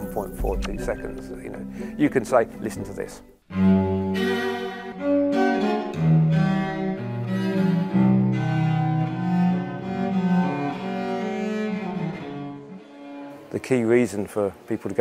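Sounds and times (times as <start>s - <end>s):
bowed strings playing held notes: 0.0s - 14.3s.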